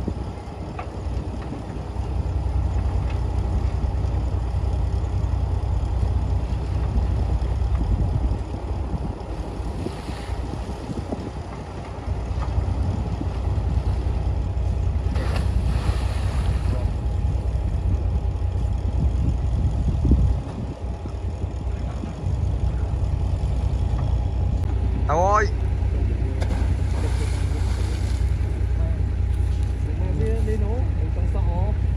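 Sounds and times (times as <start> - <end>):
bulldozer diesel engine rumbling: 0.0 - 31.9.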